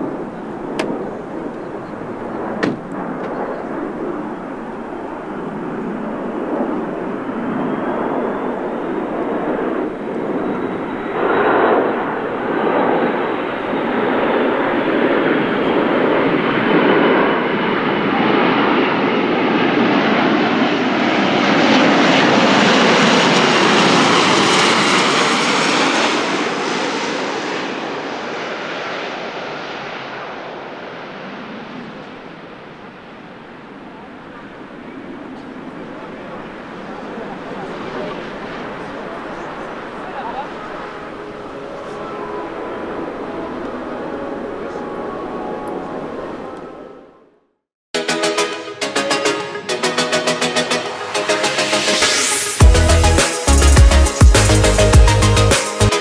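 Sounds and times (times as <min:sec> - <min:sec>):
propeller aircraft drone overhead: 0:00.0 - 0:47.5, 0:48.2 - 0:56.0.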